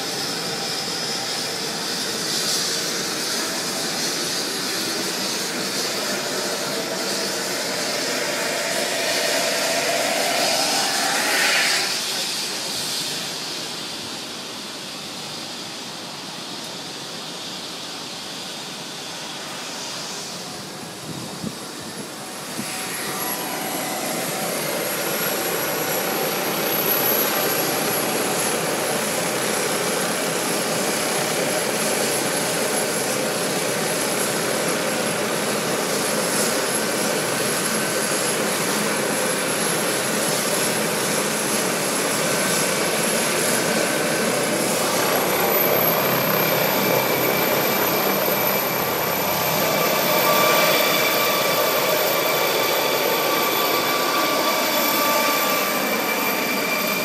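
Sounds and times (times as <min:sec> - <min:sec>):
helicopter turbine engines whining: 0:00.0 - 0:57.0.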